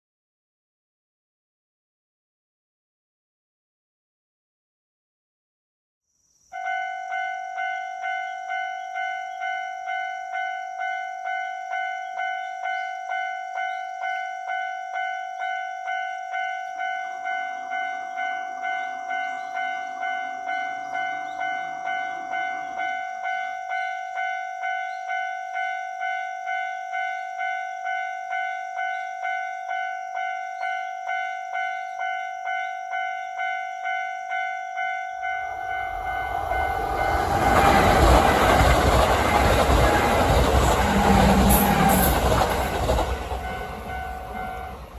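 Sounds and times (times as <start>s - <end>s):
level-crossing alarm bell: 6.5s - 44.9s.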